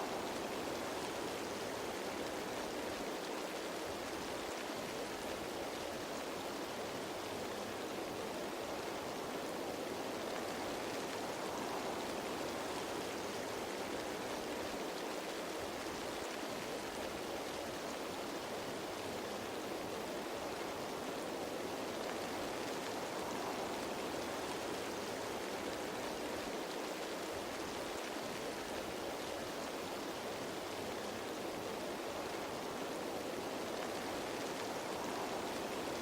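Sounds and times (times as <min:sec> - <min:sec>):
rain falling on leaves: 0:00.0 - 0:36.0.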